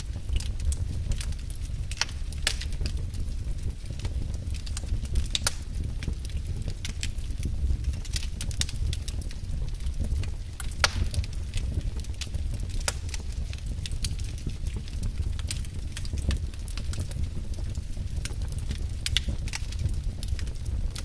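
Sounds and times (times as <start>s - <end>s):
steady low rumble: 0.0s - 21.0s
wood fire crackling: 0.0s - 21.0s.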